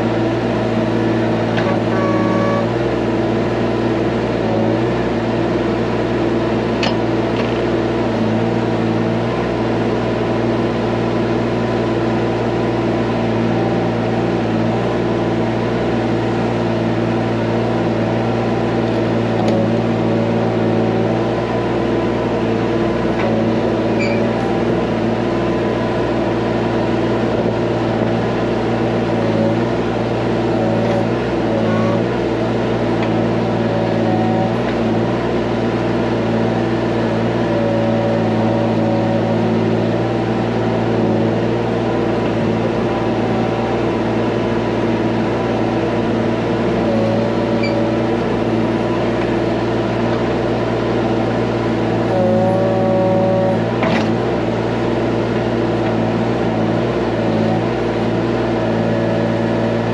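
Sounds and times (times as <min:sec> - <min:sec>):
diesel excavator engine running: 0:00.0 - 0:59.9.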